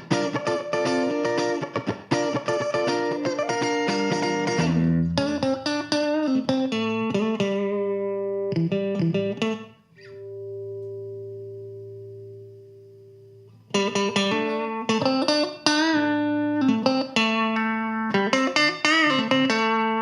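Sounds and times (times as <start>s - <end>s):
electric guitar chord ringing: 0.0s - 20.0s
electric guitar picked notes: 0.0s - 20.0s.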